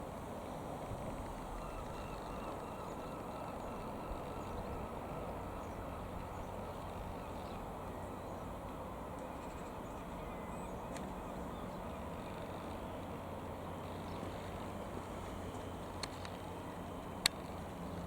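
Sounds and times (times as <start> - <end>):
piston aircraft engine droning: 0.0 - 18.0.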